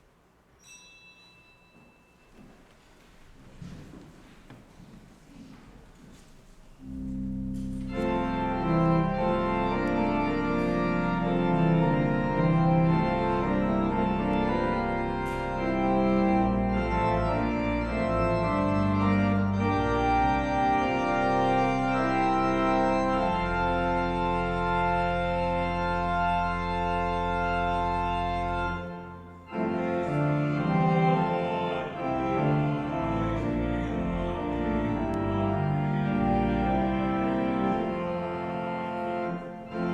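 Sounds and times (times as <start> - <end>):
church organ chords: 6.8 - 39.9.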